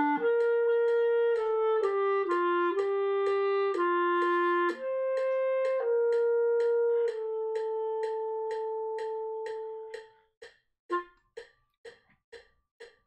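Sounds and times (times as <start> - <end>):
clarinet note: 0.0 - 10.2, 10.9 - 11.2
metronome clicking: 0.0 - 13.0.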